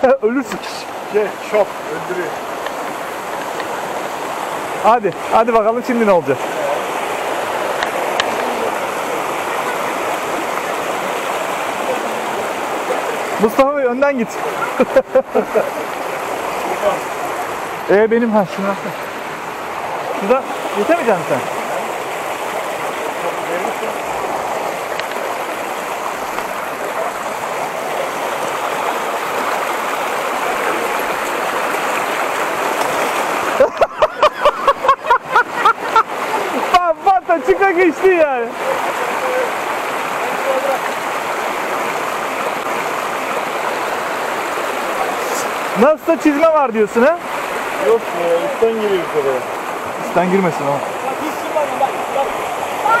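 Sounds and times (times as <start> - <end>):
mountain stream rushing over rocks: 0.0 - 53.0.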